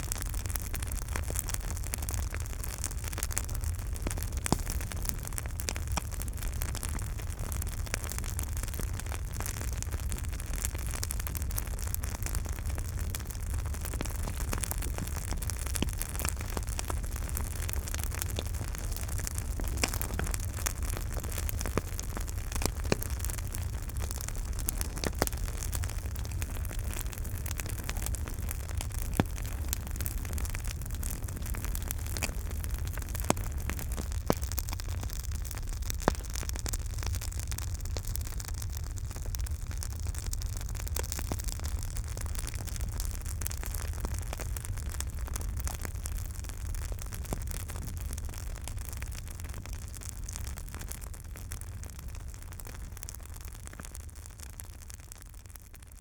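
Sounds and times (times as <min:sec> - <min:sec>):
campfire burning: 0:00.0 - 0:56.0.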